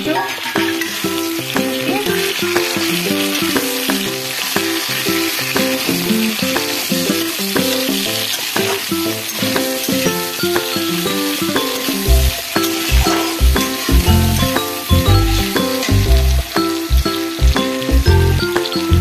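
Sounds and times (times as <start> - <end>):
plucked-string background music: 0.0 - 19.0
tomatoes sizzling in hot oil: 0.0 - 19.0.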